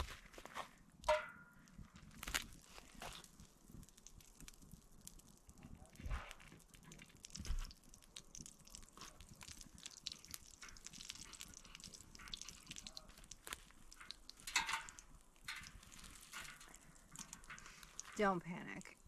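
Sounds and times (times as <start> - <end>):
fat sizzling in a frying pan: 1.8 - 19.0.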